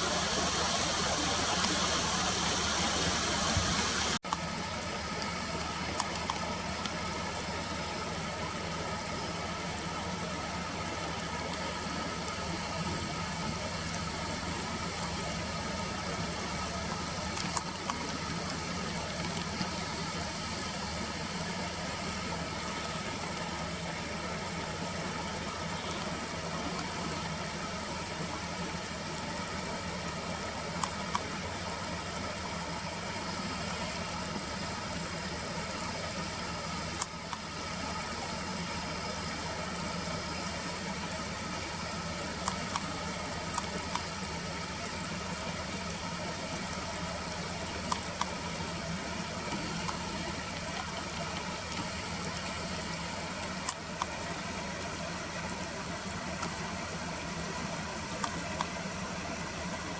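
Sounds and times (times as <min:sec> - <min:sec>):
mechanical hum: 0:00.0 - 0:59.9.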